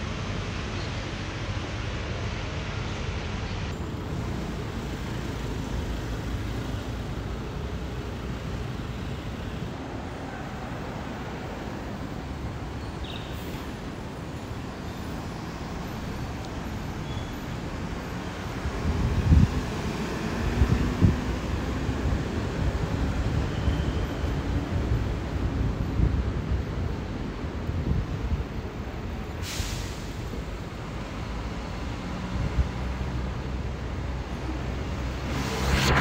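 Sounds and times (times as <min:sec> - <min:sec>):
hum of passing cars: 0:00.0 - 0:29.4, 0:30.0 - 0:36.0
low traffic rumbles: 0:00.0 - 0:36.0.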